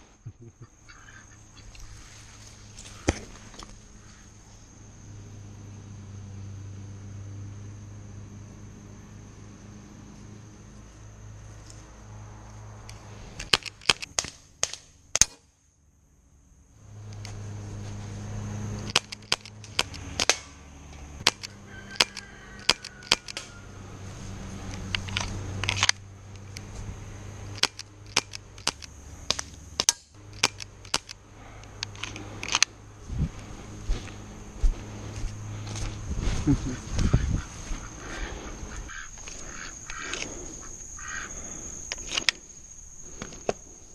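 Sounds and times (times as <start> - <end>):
low hum: 0.0 - 43.9.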